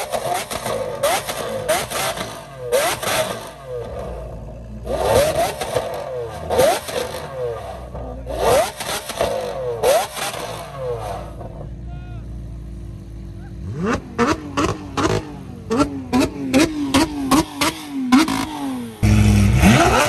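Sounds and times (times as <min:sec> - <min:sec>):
car engine revving: 0:00.0 - 0:11.8, 0:12.4 - 0:20.0.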